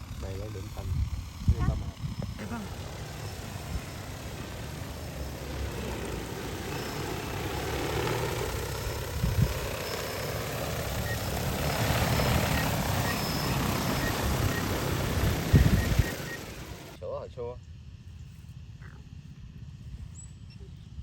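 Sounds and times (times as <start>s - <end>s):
drone rotors whirring: 0.0s - 17.0s.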